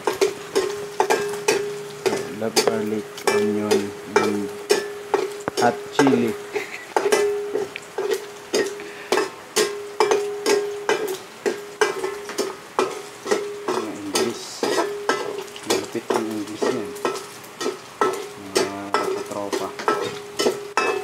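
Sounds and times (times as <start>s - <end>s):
metal spatula clanking in wok: 0.0s - 21.0s
oil sizzling: 0.0s - 21.0s.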